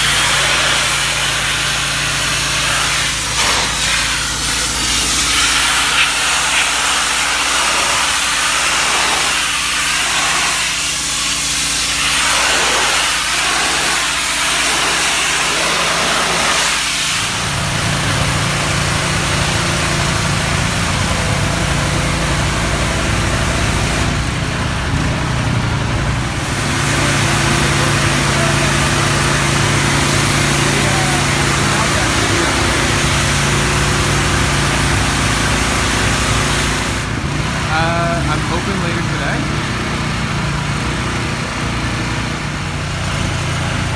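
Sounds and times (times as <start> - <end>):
engine hum: 0.0 - 43.9
pressure washer spraying: 0.0 - 43.9.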